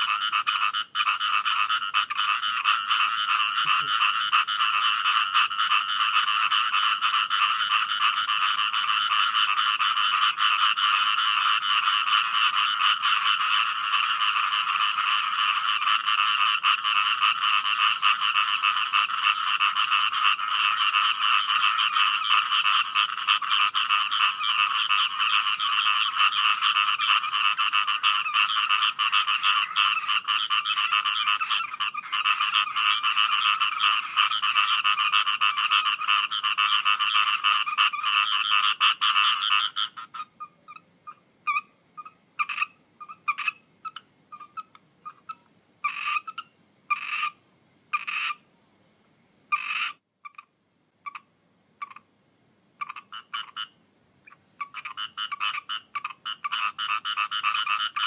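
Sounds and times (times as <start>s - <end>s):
frogs croaking chorus: 0.0s - 58.0s.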